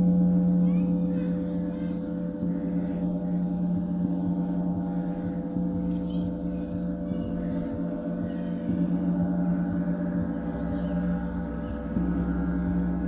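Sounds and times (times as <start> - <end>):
large gong ringing: 0.0 - 13.0.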